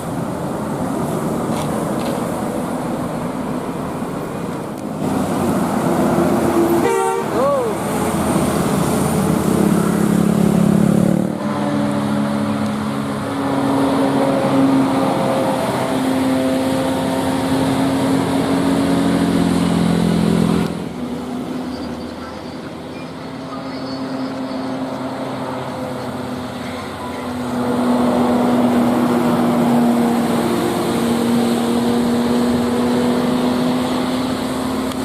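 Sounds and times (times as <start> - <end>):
bus engines droning: 0.0 - 35.0
road noise: 0.0 - 35.0.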